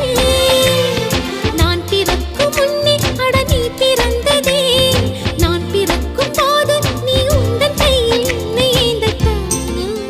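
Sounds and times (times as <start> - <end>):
film song music with beat: 0.0 - 10.0.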